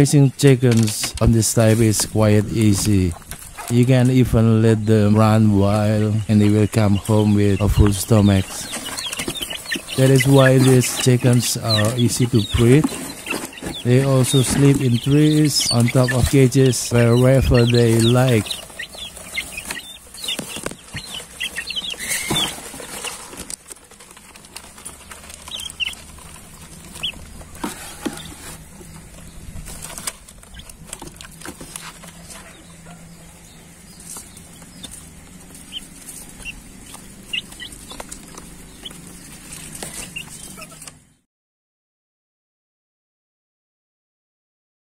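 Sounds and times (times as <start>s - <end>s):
chickens clucking: 0.0s - 41.2s
chickens rustling in feed: 0.4s - 41.0s.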